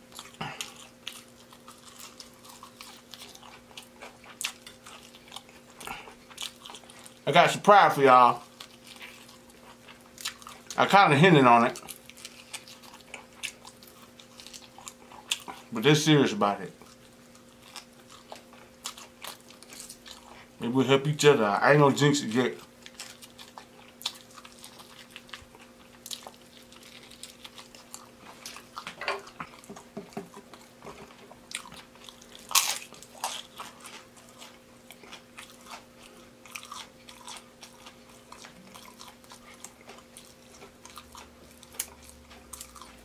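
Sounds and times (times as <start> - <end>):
crunchy bites and chewing: 0.0 - 15.9, 16.7 - 20.6, 22.5 - 43.0.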